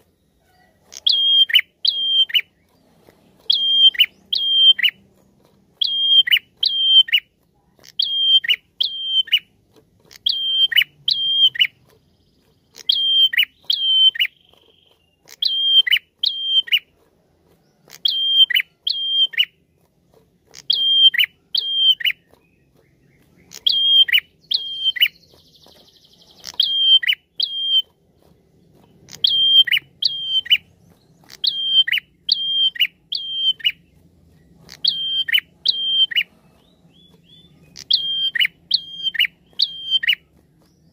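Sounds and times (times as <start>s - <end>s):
bird whistling calls: 0.0s - 2.7s, 3.5s - 5.0s, 5.8s - 7.3s, 7.9s - 9.5s, 10.1s - 11.8s, 12.7s - 16.9s, 17.9s - 19.6s, 20.5s - 28.0s, 29.1s - 34.0s, 34.6s - 40.9s
buzzy bird trill: 0.0s - 40.9s.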